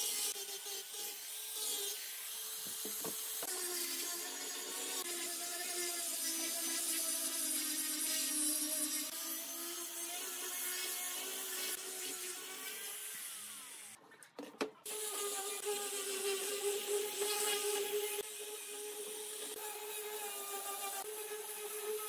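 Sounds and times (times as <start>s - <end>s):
angle grinder sanding wood: 0.0s - 14.0s, 14.9s - 22.0s.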